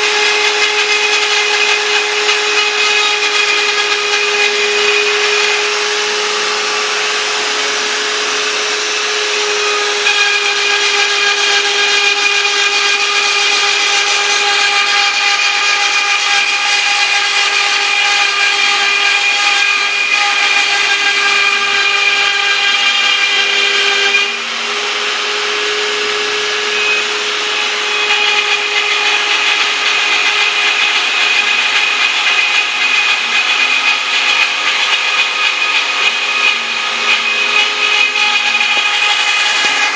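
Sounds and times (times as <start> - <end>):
rough cutting noise: 0.0 - 39.9
router spindle whine: 0.0 - 39.9.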